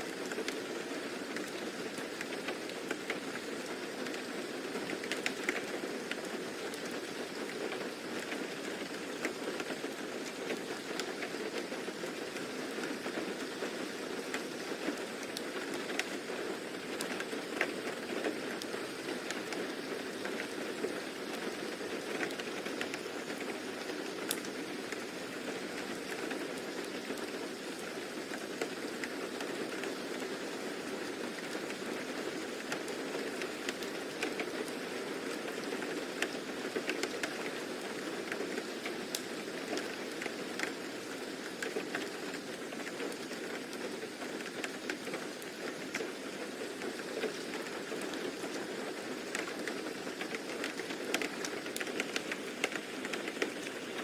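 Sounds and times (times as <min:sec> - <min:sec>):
rain hiss: 0:00.0 - 0:54.0
raindrops ticking: 0:04.9 - 0:30.3, 0:31.3 - 0:54.0.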